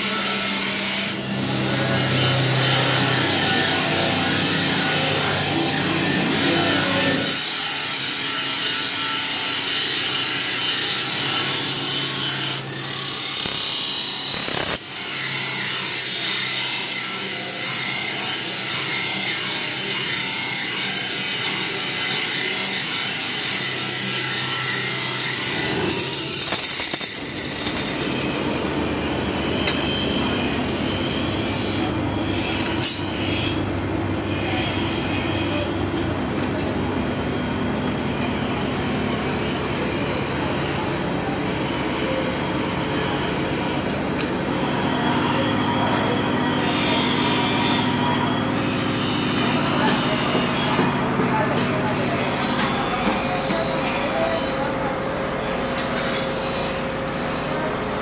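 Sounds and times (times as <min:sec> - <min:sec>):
grinding wheel on blade: 0:00.0 - 0:35.8, 0:36.4 - 0:58.0.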